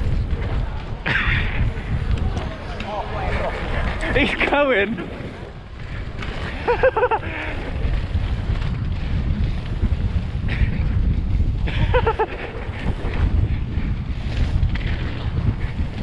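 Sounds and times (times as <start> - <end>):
tyres rumbling and bike rattling: 0.0 - 16.0
wind buffeting microphone: 0.0 - 16.0.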